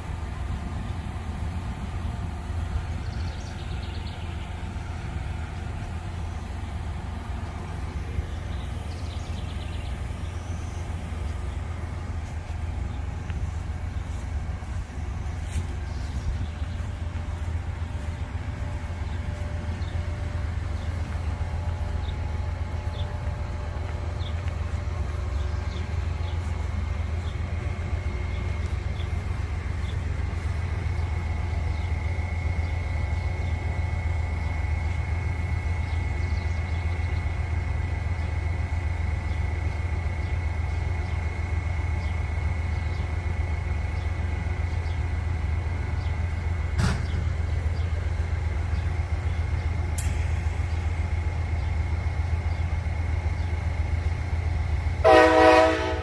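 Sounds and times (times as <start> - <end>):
freight train rumble: 0.0 - 56.0
steady high whine: 0.0 - 56.0.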